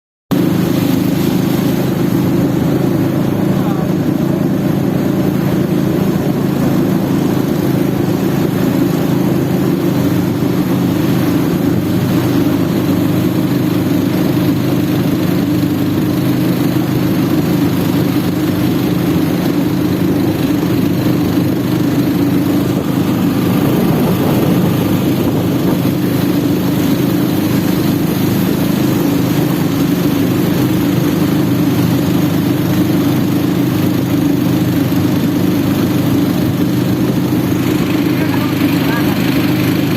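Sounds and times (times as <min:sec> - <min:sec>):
engine running steadily: 0:00.3 - 0:39.9.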